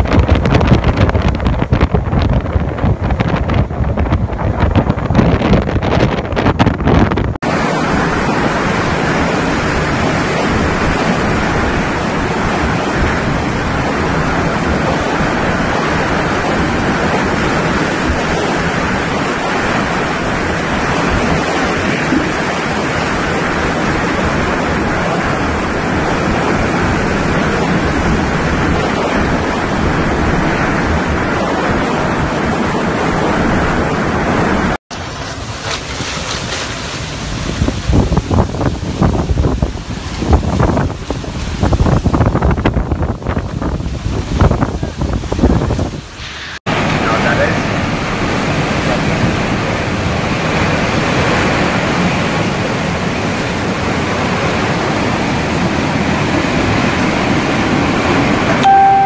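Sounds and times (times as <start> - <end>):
strong wind and rain: 0.0 - 59.0
wind noise on microphone: 0.0 - 59.0.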